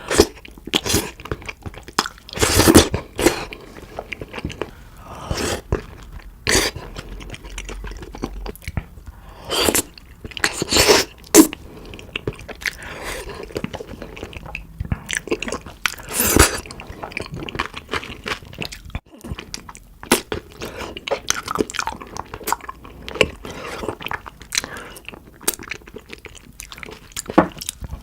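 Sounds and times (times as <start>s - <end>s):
chewing and biting: 0.1s - 28.0s.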